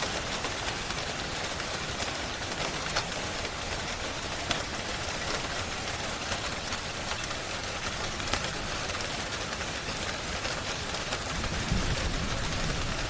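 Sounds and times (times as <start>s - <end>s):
steady rain hiss: 0.0s - 13.0s
wood fire crackling: 0.0s - 13.0s.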